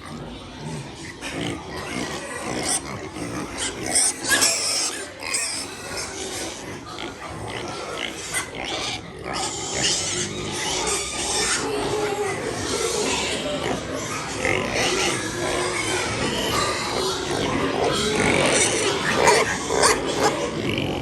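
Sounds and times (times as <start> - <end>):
pigs crying: 0.0 - 21.0.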